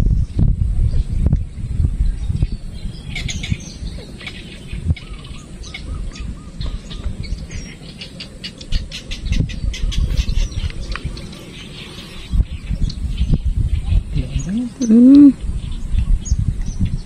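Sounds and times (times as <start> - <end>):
steady low rumble: 0.0 - 17.0
birds calling: 2.1 - 17.0.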